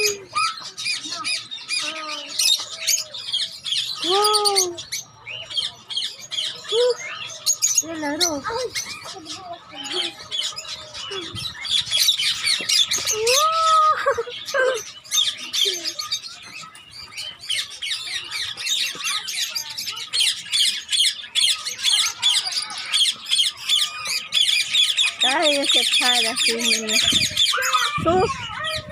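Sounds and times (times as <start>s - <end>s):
parrots chattering and squawking: 0.0s - 28.9s.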